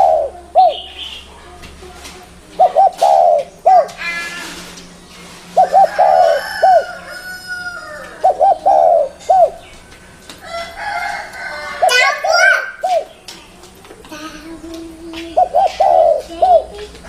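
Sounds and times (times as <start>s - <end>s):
dove cooing: 0.0s - 1.6s, 2.3s - 9.7s, 10.5s - 13.2s, 14.1s - 17.0s.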